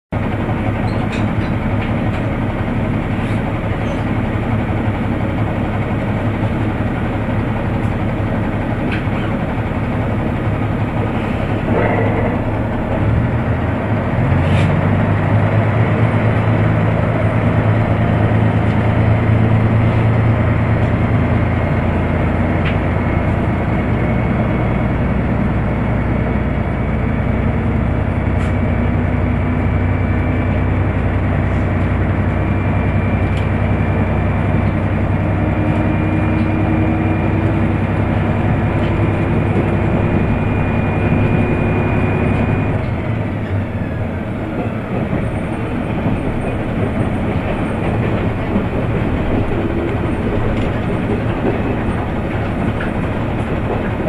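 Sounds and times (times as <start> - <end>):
diesel railcar engine: 0.1 - 54.0.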